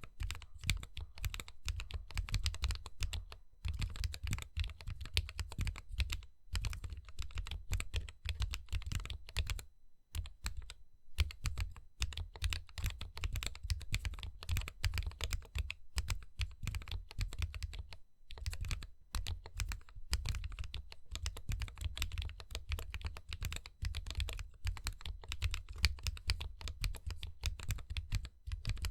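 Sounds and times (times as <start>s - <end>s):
fast typing on mechanical keyboard: 0.0s - 9.6s, 10.2s - 28.9s.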